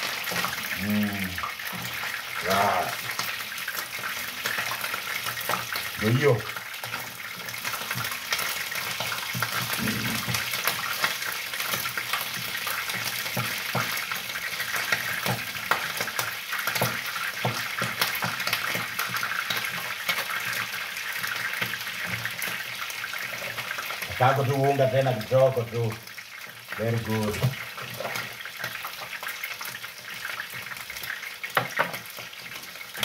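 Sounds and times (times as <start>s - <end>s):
food cooking hiss: 0.0s - 33.0s.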